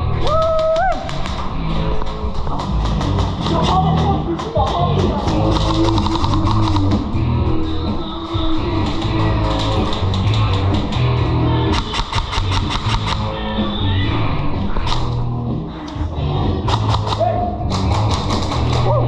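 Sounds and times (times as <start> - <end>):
fast sharp clicks: 0.0 - 7.4, 8.2 - 13.7, 14.8 - 16.0, 16.6 - 19.0
rock music with guitar and bass: 0.0 - 19.0.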